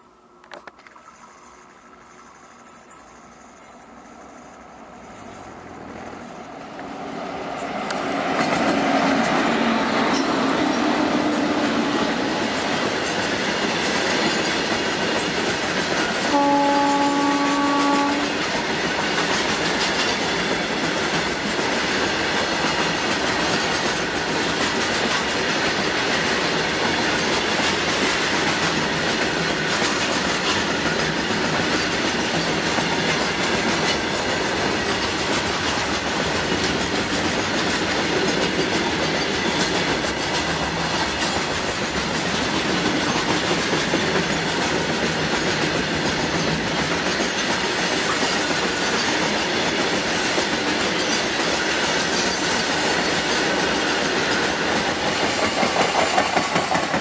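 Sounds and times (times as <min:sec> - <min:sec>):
wheels clacking over rail joints: 0:05.2 - 0:57.0.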